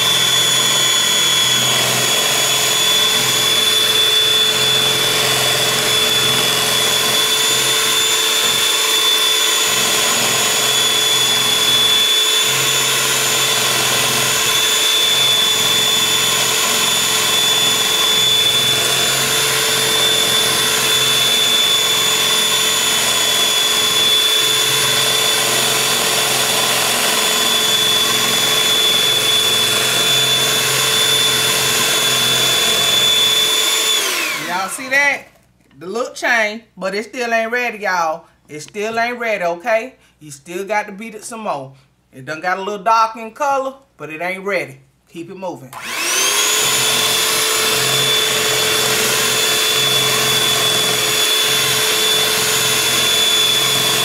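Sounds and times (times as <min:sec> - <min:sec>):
electric hand mixer whining: 0:00.0 - 0:35.2, 0:45.7 - 0:54.0.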